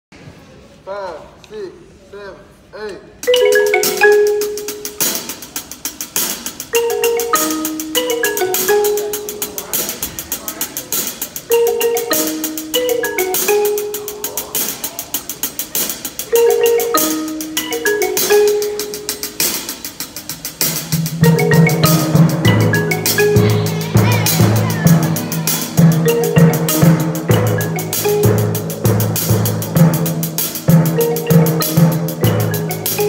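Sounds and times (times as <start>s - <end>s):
marimbas playing rapid rolls: 3.2s - 33.0s.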